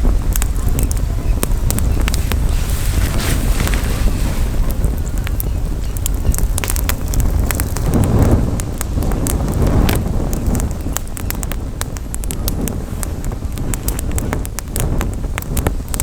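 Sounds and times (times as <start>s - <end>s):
campfire crackling and popping: 0.0s - 16.0s
wind rumble on microphone: 0.0s - 16.0s.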